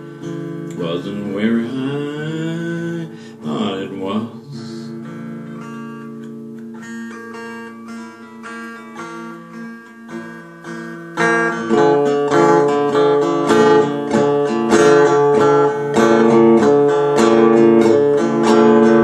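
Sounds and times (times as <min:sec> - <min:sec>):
acoustic guitar blues: 0:00.0 - 0:19.0.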